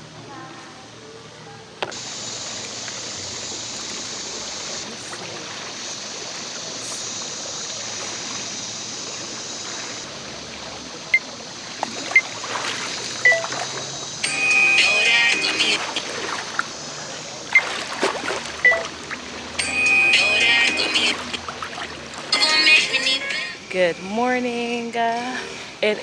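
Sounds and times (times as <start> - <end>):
running water: 1.8 - 26.0.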